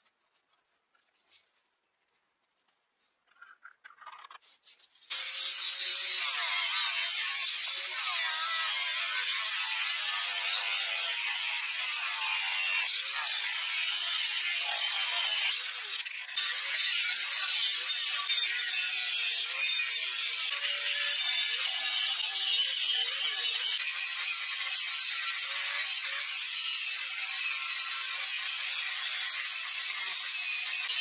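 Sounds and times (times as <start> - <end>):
angle grinder cutting steel: 5.1 - 31.0.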